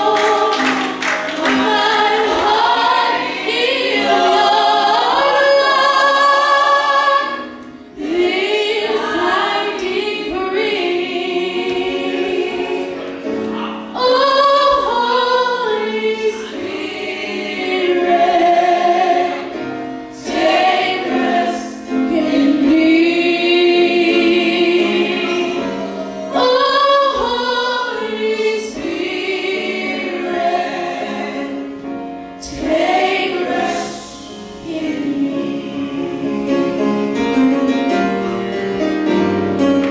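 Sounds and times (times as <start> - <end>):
choir singing gospel: 0.0 - 39.9.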